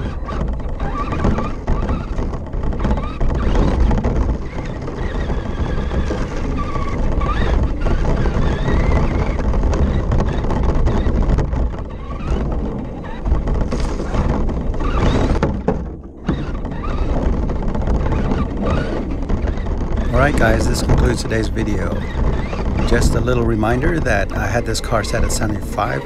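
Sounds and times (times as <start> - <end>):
wheels rumbling and rattling: 0.0 - 26.0.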